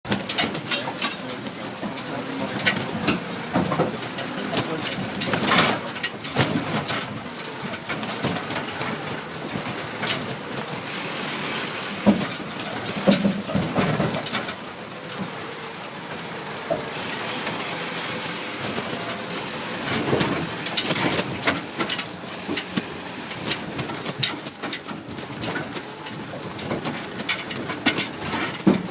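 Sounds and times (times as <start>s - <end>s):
tractor engine running: 0.0s - 28.9s
knocks clanks and rattles: 0.1s - 28.9s.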